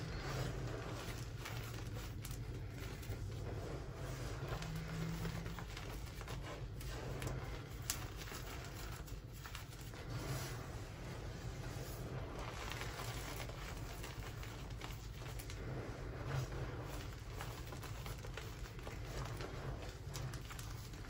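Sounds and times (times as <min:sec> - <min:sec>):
faint low hum: 0:00.0 - 0:21.0
hands crunching chalk: 0:00.0 - 0:21.0.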